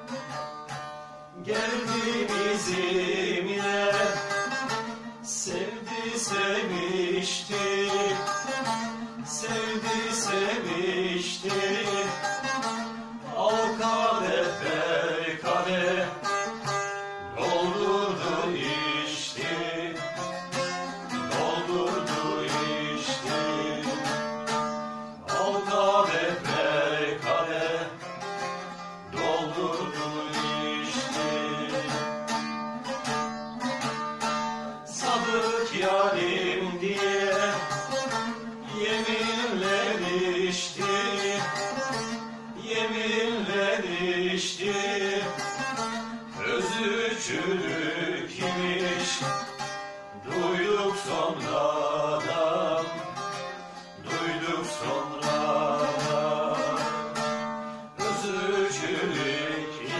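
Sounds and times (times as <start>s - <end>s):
plucked lute melody: 0.0s - 59.9s.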